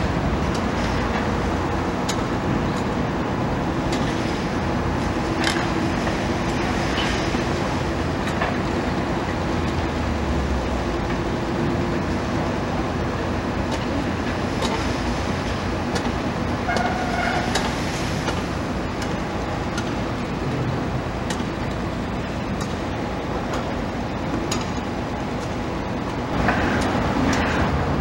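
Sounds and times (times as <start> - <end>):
excavator engine rumble: 0.0 - 28.0.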